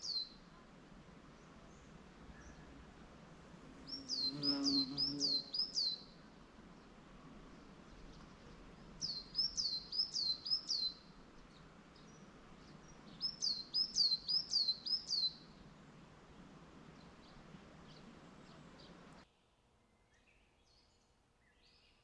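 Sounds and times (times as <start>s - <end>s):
faint outdoor hiss: 0.0s - 22.0s
songbird singing: 0.0s - 22.0s.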